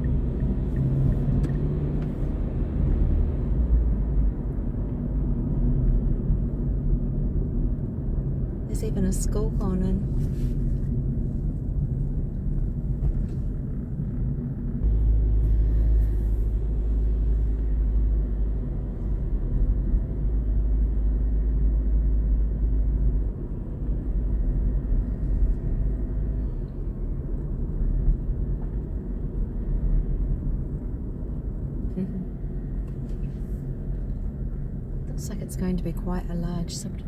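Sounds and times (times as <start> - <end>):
car cabin road and engine rumble: 0.0 - 37.0.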